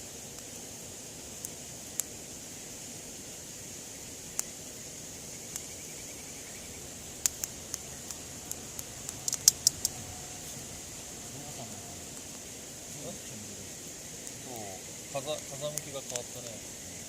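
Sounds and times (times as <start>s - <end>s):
campfire wood crackling: 0.0s - 17.0s
high-pitched background hiss: 0.0s - 17.0s.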